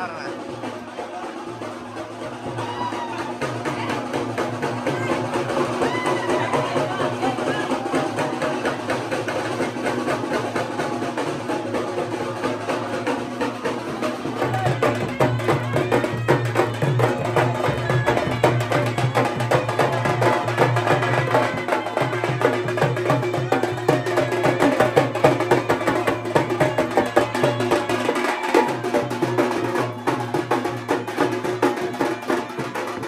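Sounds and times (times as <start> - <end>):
music with dense percussion: 0.0 - 33.0.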